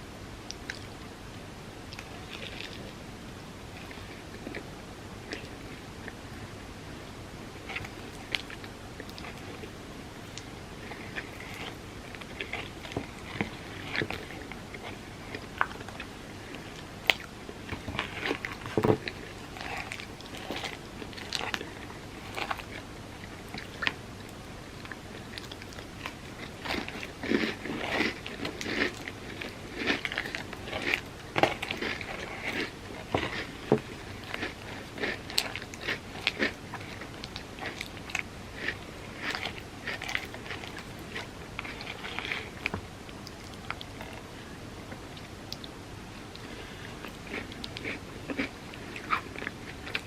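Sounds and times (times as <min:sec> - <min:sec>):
chewing and crunching: 0:01.9 - 0:03.0, 0:07.6 - 0:44.3, 0:46.3 - 0:50.0.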